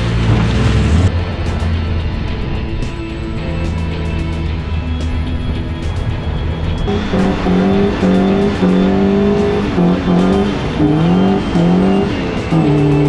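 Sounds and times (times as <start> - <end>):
car engine revving: 0.0 - 13.0
music: 0.0 - 13.0.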